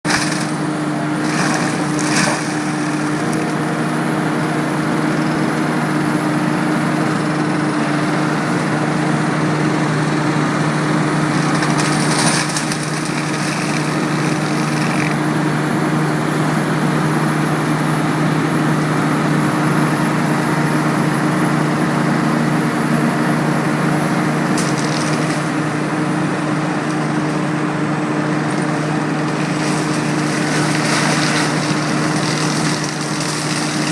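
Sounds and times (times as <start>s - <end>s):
forestry mulcher engine drone: 0.0s - 33.9s.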